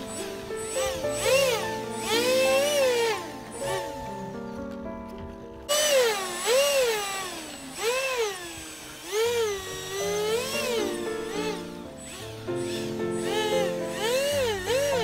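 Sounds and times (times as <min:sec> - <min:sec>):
background music with held chords: 0:00.0 - 0:08.2, 0:09.1 - 0:15.0
electric motors whining: 0:00.0 - 0:15.0.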